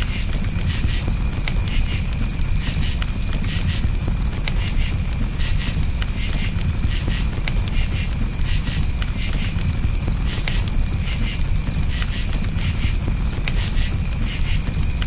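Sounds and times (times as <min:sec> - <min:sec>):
campfire rumbling: 0:00.0 - 0:15.0
crickets chirping: 0:00.0 - 0:15.0
wood crackling and popping: 0:00.0 - 0:15.0.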